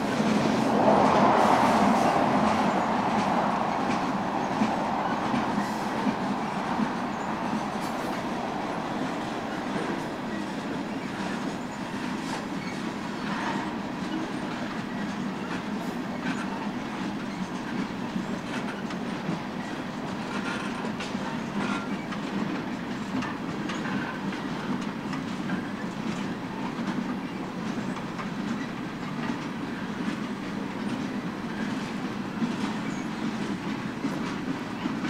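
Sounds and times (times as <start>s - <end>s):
freight train rumbling past: 0.0s - 35.0s
wheels clicking over rail joints: 2.2s - 35.0s.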